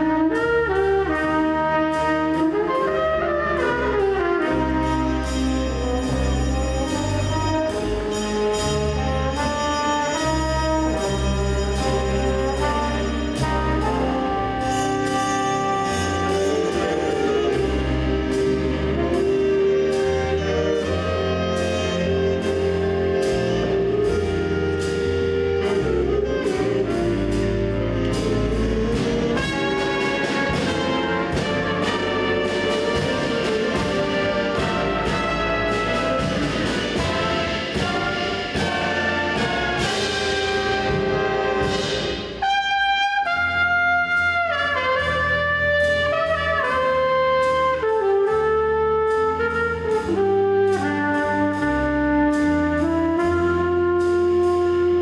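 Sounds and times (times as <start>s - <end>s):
school band playing brass piece: 0.0s - 55.0s.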